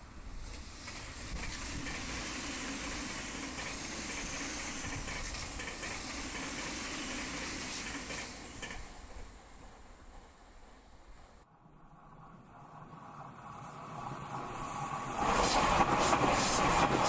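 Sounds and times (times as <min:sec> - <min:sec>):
electric train wheels on rail: 0:00.0 - 0:17.0
low train hum: 0:00.0 - 0:17.0.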